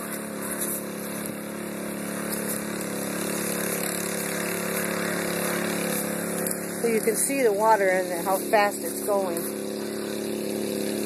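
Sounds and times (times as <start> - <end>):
water pump engine running: 0.0 - 11.0.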